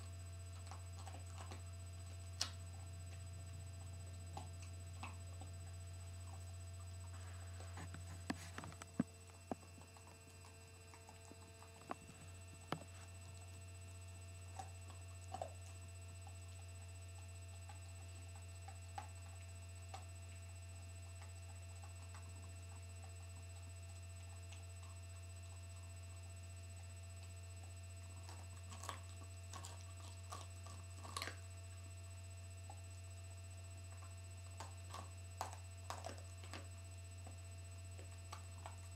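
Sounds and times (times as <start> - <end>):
dog teeth crunching bone: 0.0 - 33.0, 33.8 - 38.9
steady low hum: 0.0 - 38.9.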